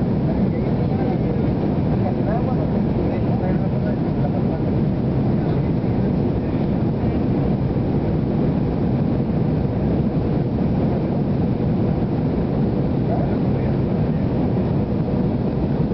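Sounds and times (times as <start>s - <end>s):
airliner cabin engine rumble: 0.0s - 15.9s.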